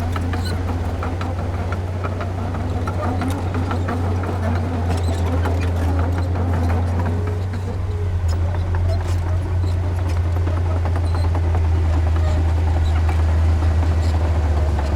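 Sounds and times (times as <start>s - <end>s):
diesel machinery engine drone: 0.0s - 14.9s.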